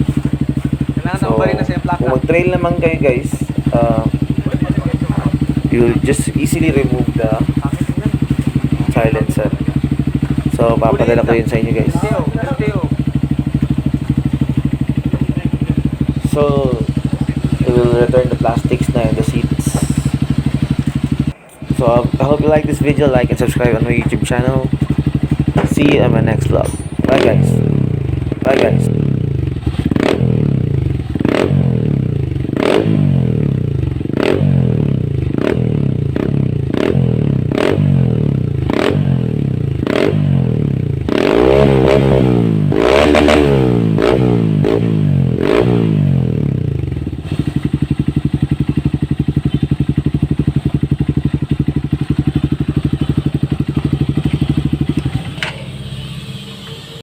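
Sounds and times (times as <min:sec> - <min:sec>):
motorcycle engine revving and idling: 0:00.0 - 0:57.0.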